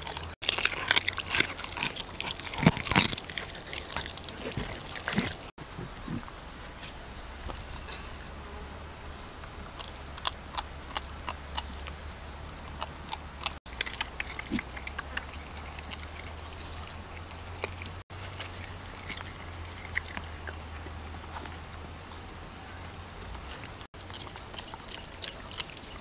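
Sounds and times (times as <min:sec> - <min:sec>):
dogs chewing crunchily: 0:00.0 - 0:06.8, 0:09.6 - 0:26.0.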